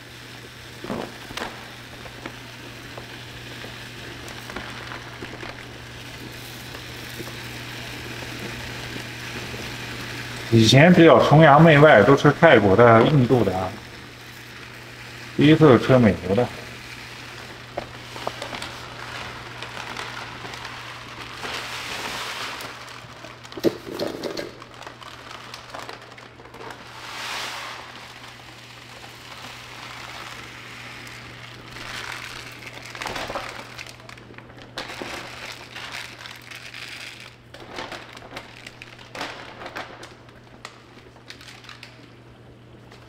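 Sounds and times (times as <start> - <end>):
rice pouring into plastic bin: 0.0 - 42.0
plastic bag crinkling: 0.0 - 43.0.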